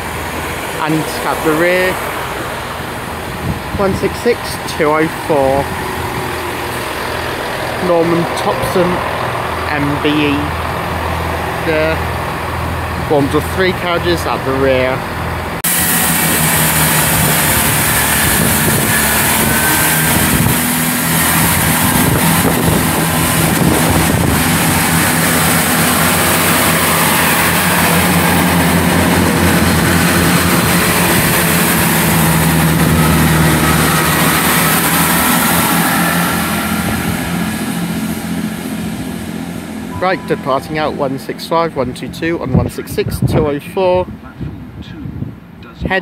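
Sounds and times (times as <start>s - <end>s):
diesel train engines running: 0.0s - 45.7s.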